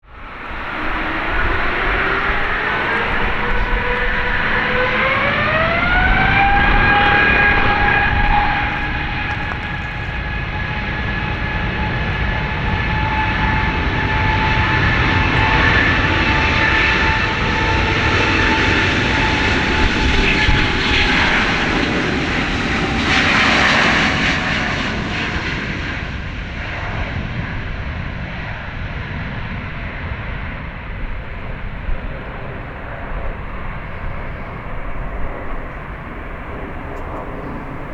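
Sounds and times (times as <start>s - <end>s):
jet engine whine: 0.0s - 37.9s
jet roar: 0.0s - 37.9s.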